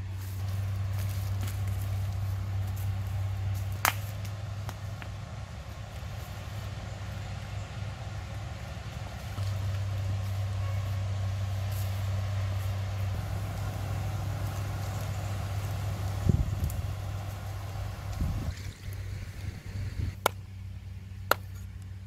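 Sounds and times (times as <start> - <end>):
low engine drone: 0.0 - 22.0.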